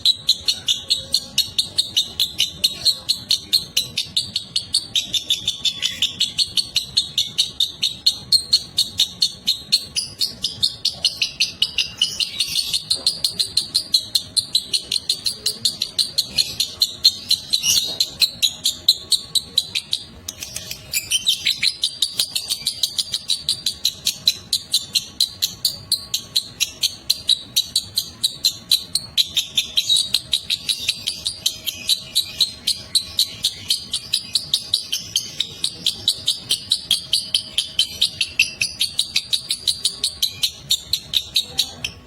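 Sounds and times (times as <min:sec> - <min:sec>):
bird chattering in high chirps: 0:00.0 - 0:42.0.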